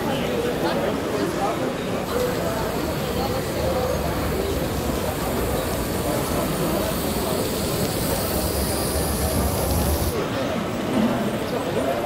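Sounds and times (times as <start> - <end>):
murmur of crowd voices: 0.0 - 12.0.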